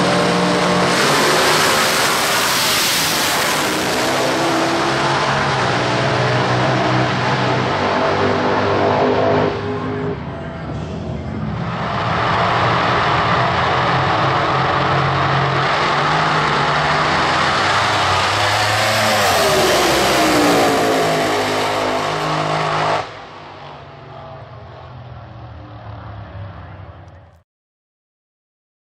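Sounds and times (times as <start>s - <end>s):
drag car engine roaring: 0.0s - 27.4s.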